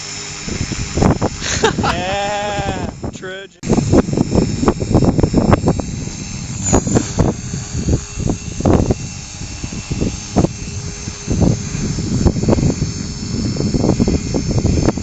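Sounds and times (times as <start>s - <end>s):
rc helicopter whine: 0.0s - 15.0s
wind buffeting microphone: 0.2s - 15.0s.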